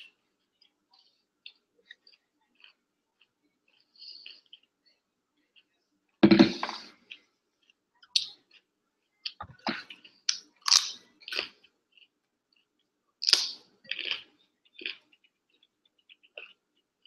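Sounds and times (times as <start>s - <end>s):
chewing with wet crunches: 0.4s - 4.8s, 7.0s - 17.0s.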